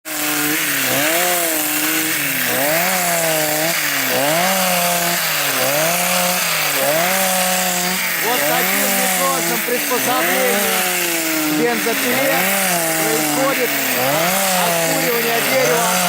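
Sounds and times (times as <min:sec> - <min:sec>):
chainsaw engine at high revs: 0:00.0 - 0:16.0
cutter stripping bark: 0:00.1 - 0:16.0.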